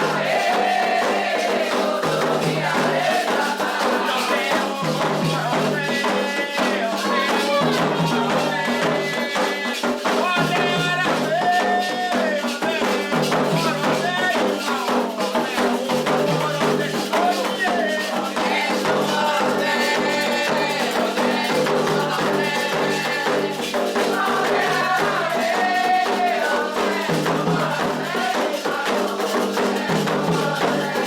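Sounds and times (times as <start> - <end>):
ritual percussion with rattling: 0.0 - 31.0
voices singing: 0.0 - 31.0.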